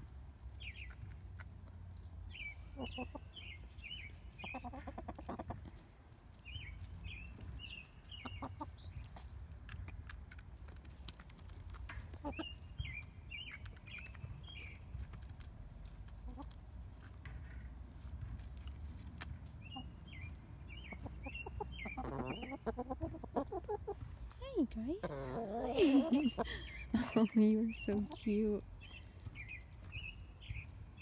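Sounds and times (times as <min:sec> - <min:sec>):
hens pecking at log: 0:00.0 - 0:31.0
hens clucking: 0:00.9 - 0:17.3, 0:18.0 - 0:30.1.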